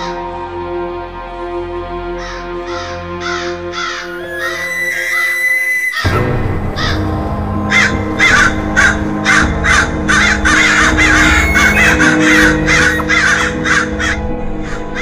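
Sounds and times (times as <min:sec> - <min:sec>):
low music drone: 0:00.0 - 0:15.0
crows cawing: 0:02.2 - 0:15.0.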